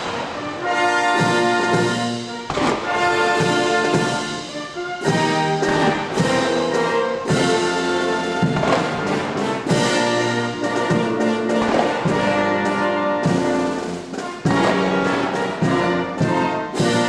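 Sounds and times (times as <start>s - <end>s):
military band slow brass music: 0.0s - 17.0s.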